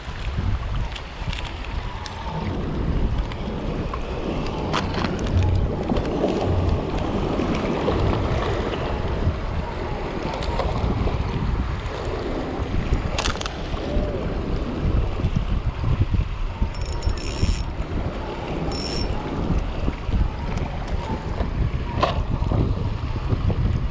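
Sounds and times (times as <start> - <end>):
waves washing against rocks: 0.0 - 23.9
wind buffeting microphone: 0.0 - 23.9.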